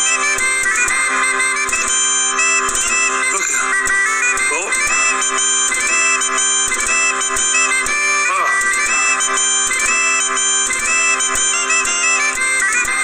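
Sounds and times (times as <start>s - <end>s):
bagpipe chanter melody: 0.0s - 13.0s
bagpipe drones: 0.0s - 13.0s.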